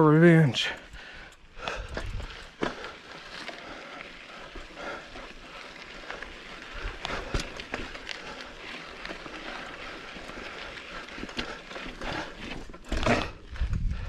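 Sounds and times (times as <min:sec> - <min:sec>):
footsteps crunching on rocky trail: 0:00.5 - 0:14.0.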